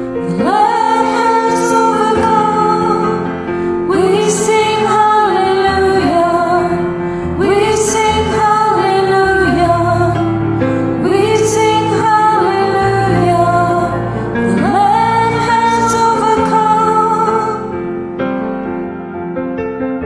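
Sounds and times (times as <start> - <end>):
keyboard accompaniment: 0.0 - 20.0
woman singing worship song: 0.2 - 10.2, 11.0 - 17.8.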